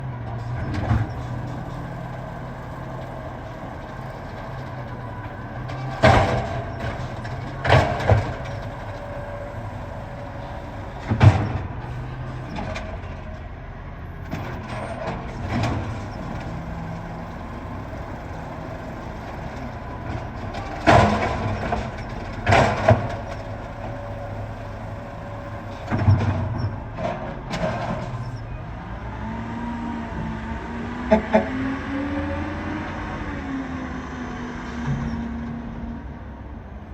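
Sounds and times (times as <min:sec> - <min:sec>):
garbage truck running: 0:00.0 - 0:36.9.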